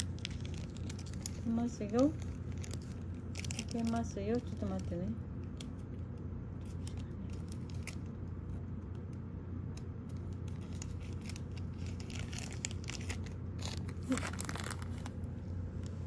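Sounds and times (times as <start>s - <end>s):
plastic packet crinkling: 0.0s - 9.1s, 9.7s - 15.4s
steady low hum: 0.0s - 16.0s.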